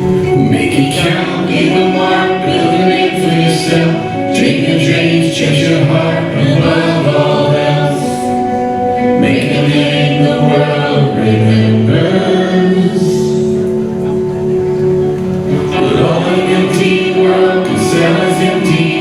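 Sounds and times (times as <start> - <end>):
choir singing gospel song: 0.0 - 13.7, 15.2 - 19.0.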